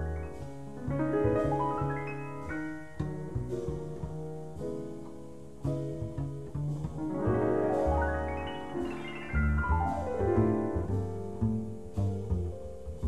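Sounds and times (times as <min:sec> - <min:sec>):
double bass: 0:00.0 - 0:13.0
jazz piano: 0:00.0 - 0:13.0.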